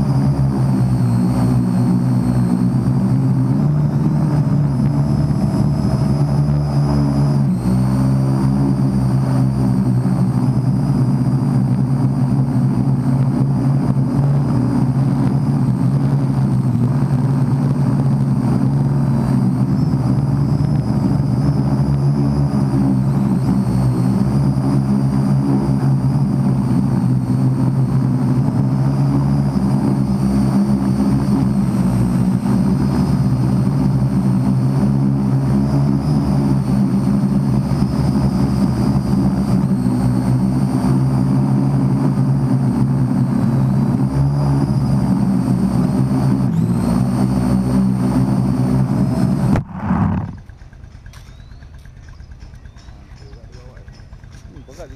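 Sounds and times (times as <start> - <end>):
drone motors and propellers whining: 0.0 - 54.9
propellers spinning down: 0.0 - 54.9.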